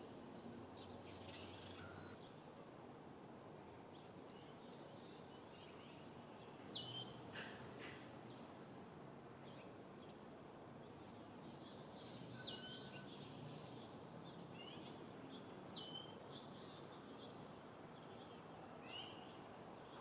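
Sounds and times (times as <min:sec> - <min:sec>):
songbird chirps: 0:00.0 - 0:02.5, 0:03.8 - 0:08.6, 0:09.4 - 0:20.0
outdoor background hiss: 0:00.0 - 0:20.0.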